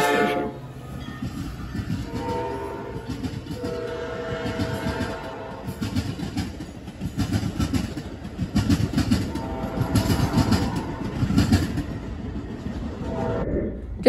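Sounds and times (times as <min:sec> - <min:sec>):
train rumble: 0:00.0 - 0:14.0
train wheels clacking over rail joints: 0:00.9 - 0:13.0.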